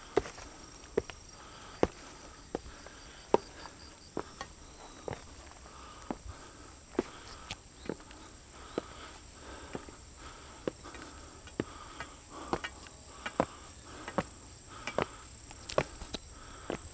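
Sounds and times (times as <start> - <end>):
footsteps on concrete stairs: 0.0 - 16.9
insects chirring: 0.0 - 16.9.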